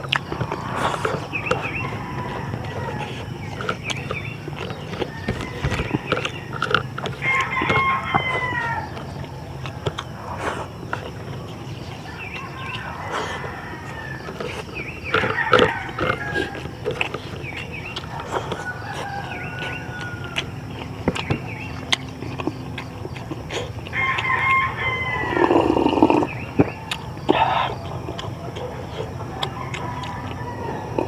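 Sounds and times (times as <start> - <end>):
rooster crowing: 0.0 - 31.0.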